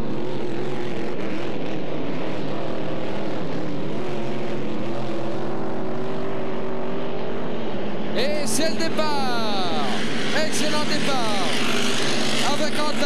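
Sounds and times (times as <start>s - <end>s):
racing boat engines droning: 0.0s - 13.0s.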